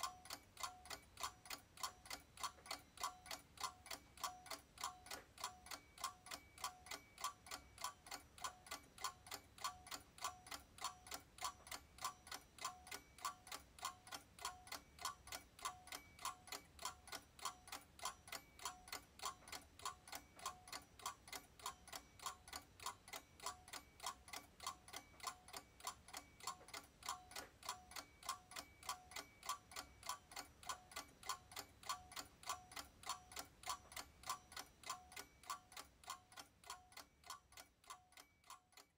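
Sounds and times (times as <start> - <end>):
clock ticking: 0.0 - 38.9.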